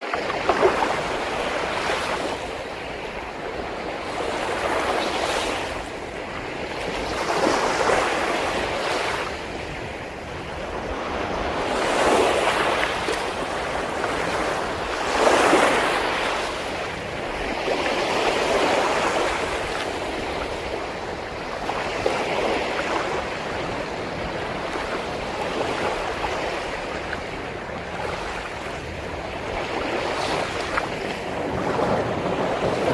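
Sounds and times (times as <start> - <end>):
sea waves breaking on beach: 0.0 - 32.9.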